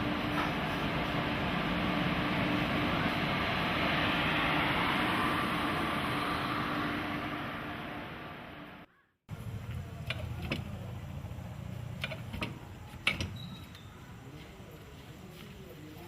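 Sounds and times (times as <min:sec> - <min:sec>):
vehicle noise: 0:00.0 - 0:16.0.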